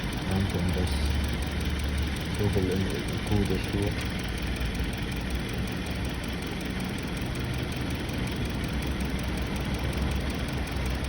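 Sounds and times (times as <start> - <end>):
misfiring car engine idling: 0.0 - 11.0.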